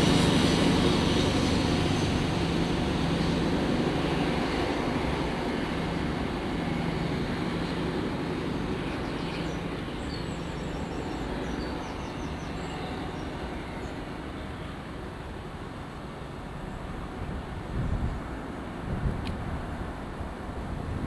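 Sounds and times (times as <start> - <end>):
diesel train engine working hard: 0.0 - 21.0.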